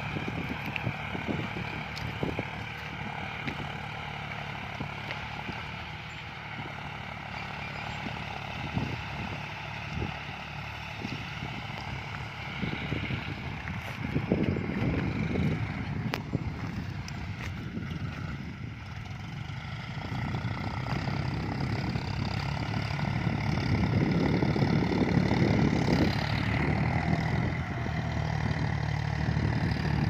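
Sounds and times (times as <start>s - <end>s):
tractor diesel engines running: 0.0s - 30.0s.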